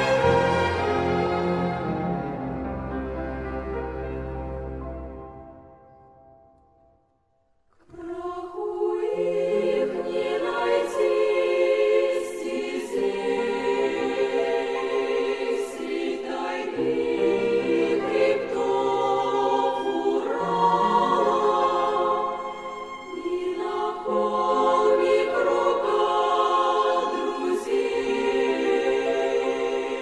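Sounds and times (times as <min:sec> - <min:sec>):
choir singing held chords: 0:00.0 - 0:05.7, 0:07.9 - 0:30.0.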